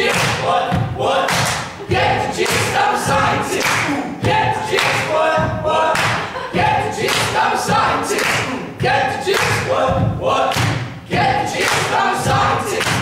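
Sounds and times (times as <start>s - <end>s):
group chanting: 0.0s - 13.0s.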